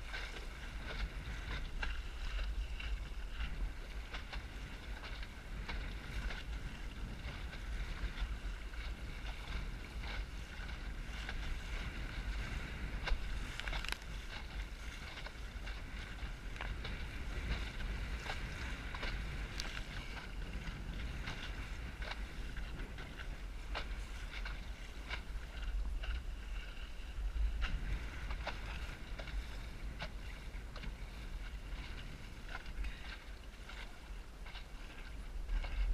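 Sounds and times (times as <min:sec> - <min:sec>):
water slapping against hull: 0:00.0 - 0:35.9
water splashing: 0:00.0 - 0:35.9
wind rumbling on microphone: 0:00.0 - 0:35.9.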